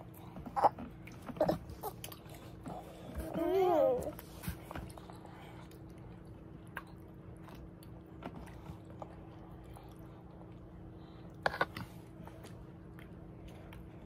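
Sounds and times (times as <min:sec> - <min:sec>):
faint chewing and mouth clicks: 0:00.0 - 0:14.0
steady low hum: 0:00.0 - 0:14.0.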